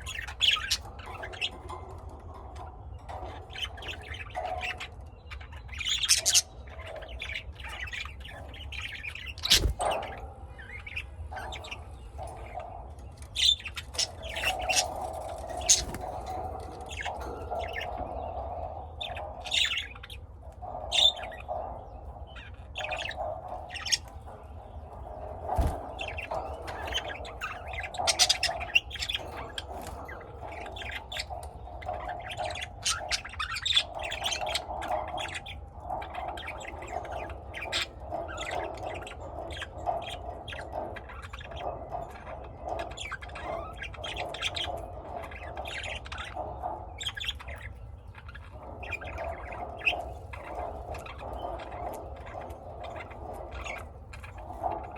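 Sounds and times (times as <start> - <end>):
lovebirds chirping and squawking: 0.0 - 54.9.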